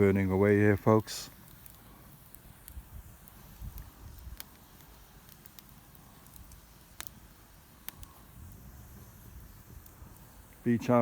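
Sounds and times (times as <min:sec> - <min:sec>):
sharp pops of fire: 0:00.0 - 0:11.0
wood fire crackling: 0:00.0 - 0:11.0.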